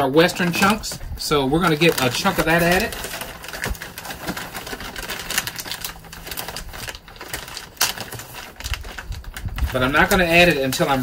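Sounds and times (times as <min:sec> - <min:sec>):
bag crinkling: 0:00.0 - 0:11.0.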